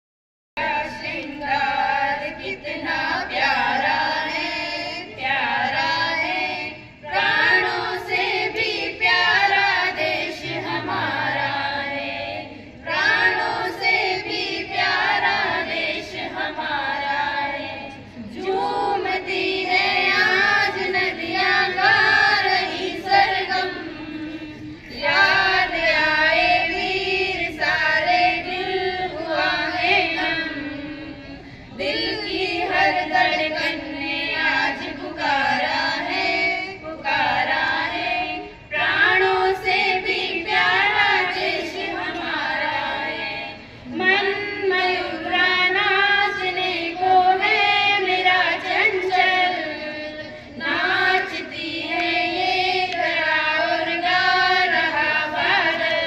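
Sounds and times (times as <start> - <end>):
women singing in chorus: 0.6 - 56.0.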